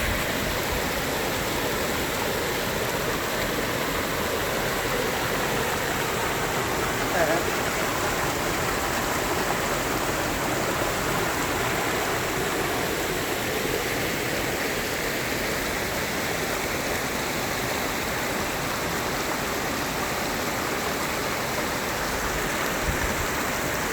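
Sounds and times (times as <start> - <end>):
stream flowing: 0.0 - 23.9.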